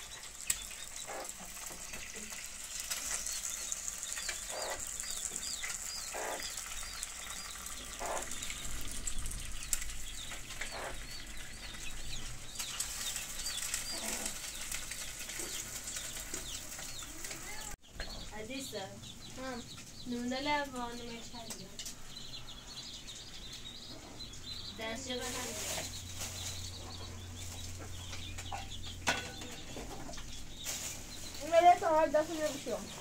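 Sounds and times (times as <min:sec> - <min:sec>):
chicks peeping: 0:00.0 - 0:33.0
chicken clucking: 0:01.0 - 0:01.4, 0:03.6 - 0:08.8, 0:10.1 - 0:18.2, 0:19.3 - 0:32.8.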